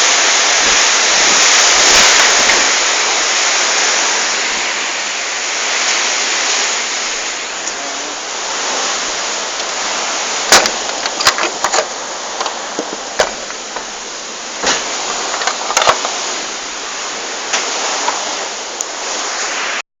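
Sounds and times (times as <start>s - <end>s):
storm wind rushing: 0.0s - 19.8s.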